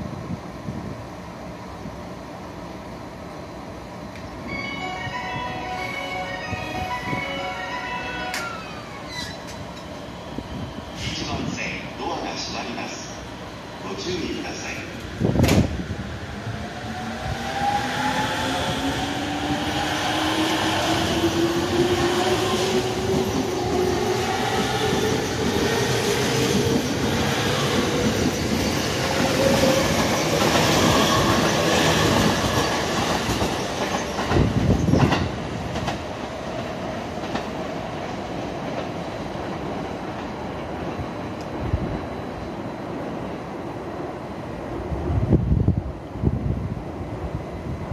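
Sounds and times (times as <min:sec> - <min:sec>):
train wheels on rail: 0:08.2 - 0:47.9.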